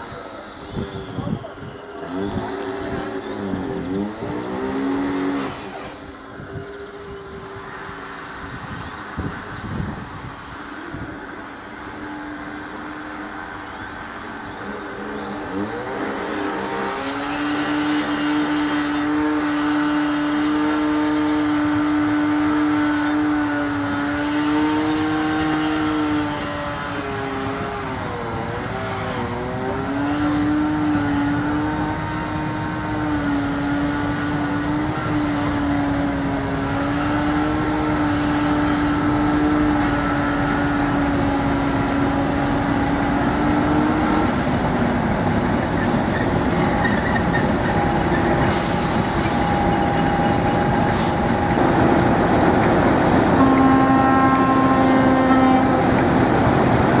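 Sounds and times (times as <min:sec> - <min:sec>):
diesel train engine: 0:00.0 - 0:57.0.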